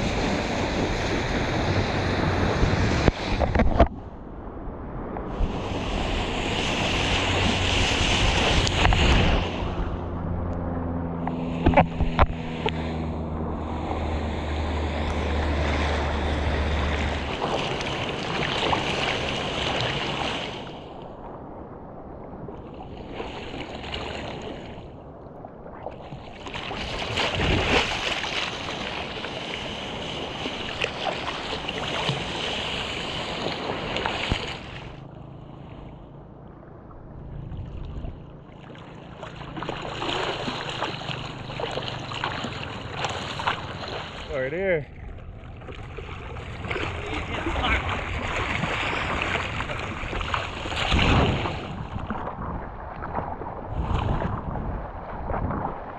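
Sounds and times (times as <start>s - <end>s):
seawater rushing and splashing: 0.0s - 55.9s
wind: 0.0s - 55.9s.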